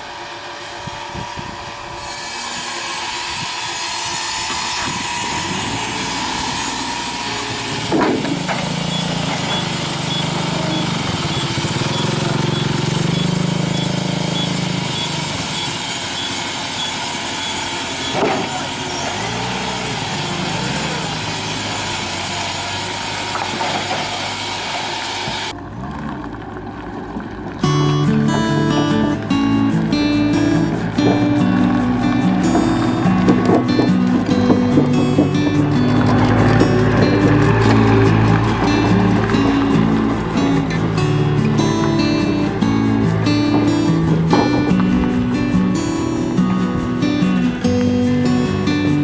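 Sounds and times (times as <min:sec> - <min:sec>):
wood-sawing machine cutting: 0:00.0 - 0:25.6, 0:27.2 - 0:49.0.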